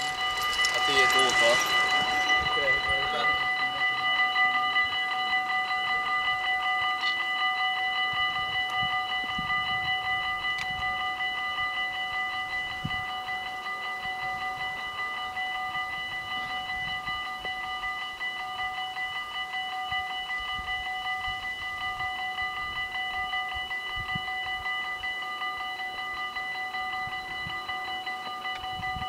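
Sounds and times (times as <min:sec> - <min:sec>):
level crossing bells ringing: 0:00.0 - 0:29.0.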